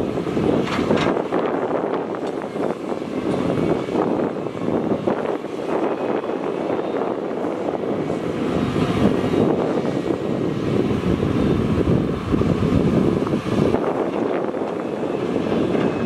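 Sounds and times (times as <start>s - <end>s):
heavy diesel engines running: 0.0s - 16.0s.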